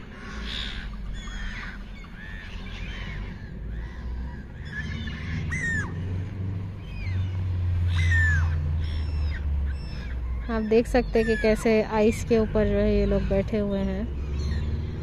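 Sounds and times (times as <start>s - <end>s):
gulls calling: 0.0s - 15.0s
low rumble: 0.0s - 15.0s.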